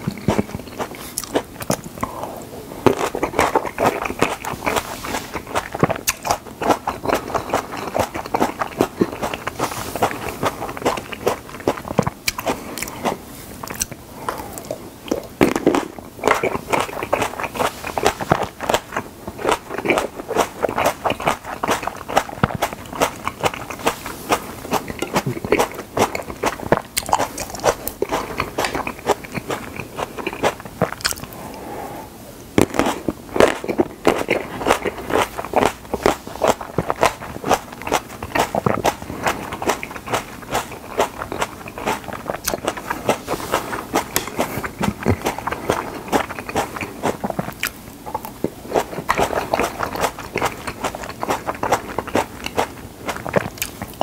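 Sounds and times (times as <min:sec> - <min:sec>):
chewing tomatoes: 0:00.0 - 0:31.6, 0:32.6 - 0:54.0.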